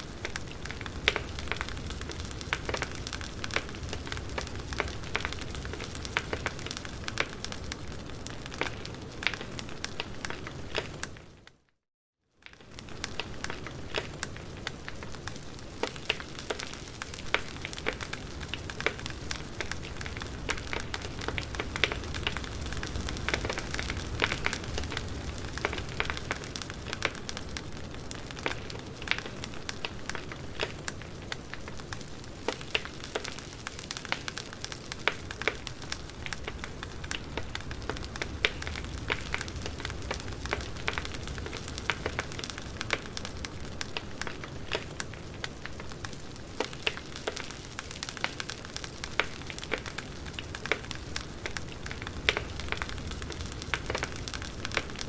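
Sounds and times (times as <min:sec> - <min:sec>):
campfire crackling: 0:00.0 - 0:11.5, 0:12.4 - 0:55.0.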